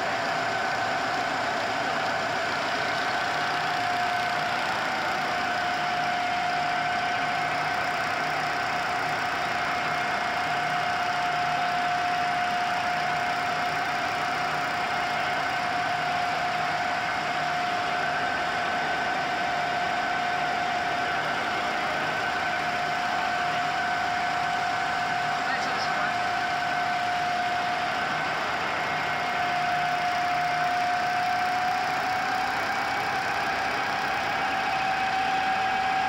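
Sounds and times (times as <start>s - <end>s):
constant machine whine: 0.0s - 36.0s
printing press mechanical drone: 0.0s - 36.0s.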